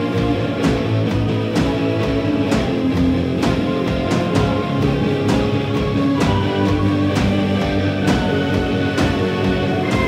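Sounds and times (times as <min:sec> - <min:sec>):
live rock band playing: 0:00.0 - 0:10.0.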